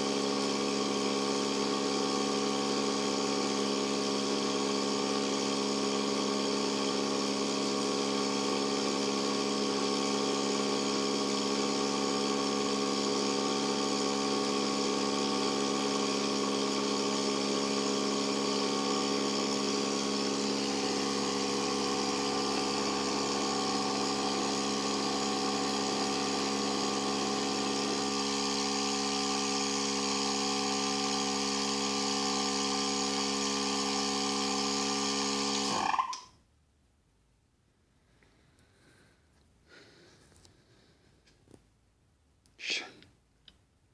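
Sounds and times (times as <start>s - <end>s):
machine hum: 0.0s - 35.9s.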